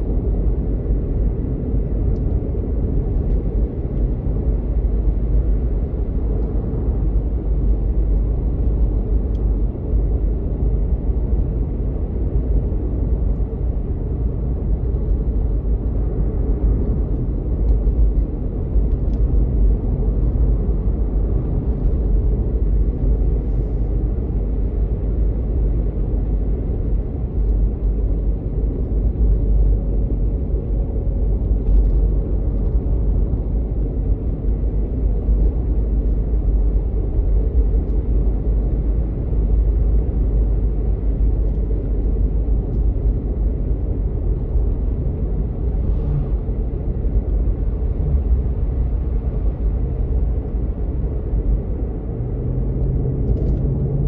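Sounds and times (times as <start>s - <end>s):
tyre and road noise: 0.0s - 54.0s.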